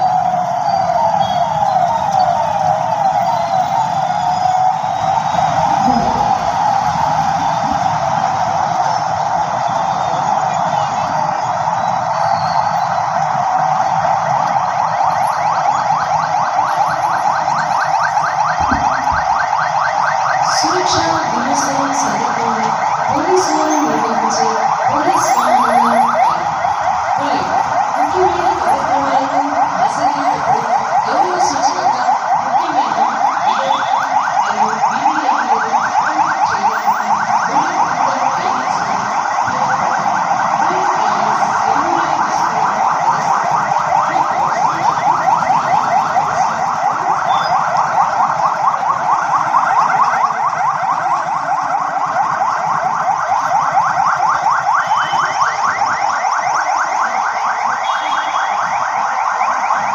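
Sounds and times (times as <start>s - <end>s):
police sirens wailing: 0.0s - 59.9s.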